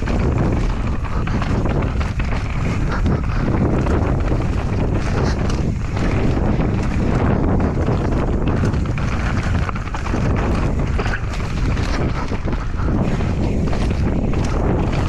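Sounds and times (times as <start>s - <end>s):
bike rattling clicks and knocks: 0.0s - 15.0s
tyres rumbling on dirt: 0.0s - 15.0s
wind on microphone: 0.0s - 15.0s.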